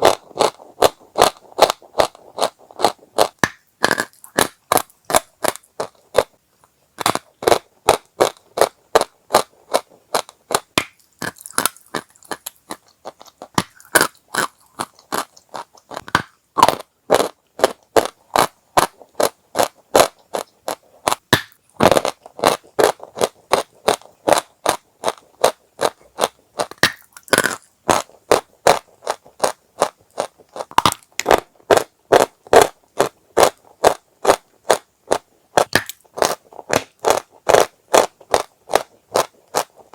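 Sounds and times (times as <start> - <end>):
chalk being chewed: 0.0 - 6.4, 7.0 - 39.9.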